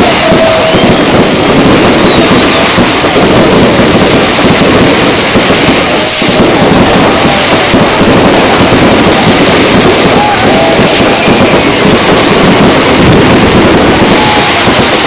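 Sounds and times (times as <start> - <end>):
fireworks bursting with loud bangs: 0.0 - 15.0.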